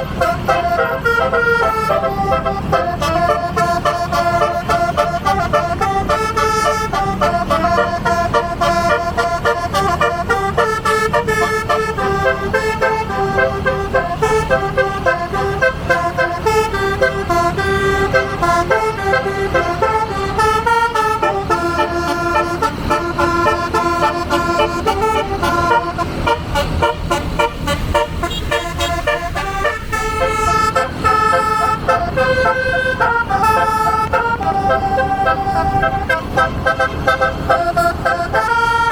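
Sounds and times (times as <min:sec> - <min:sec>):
bus engine running: 0:00.0 - 0:38.9
musical air horn melody: 0:00.0 - 0:38.9.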